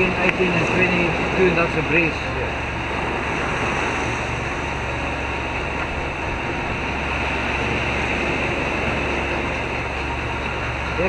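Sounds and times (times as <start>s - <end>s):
low steady hum: 0.0s - 11.0s
water rushing past hull: 0.0s - 11.0s.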